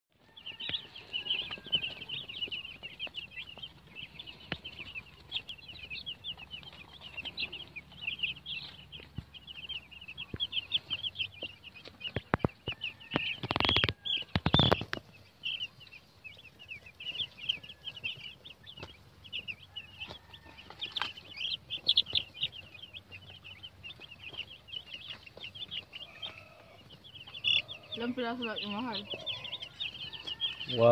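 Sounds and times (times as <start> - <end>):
chicks peeping: 0.1 - 30.9.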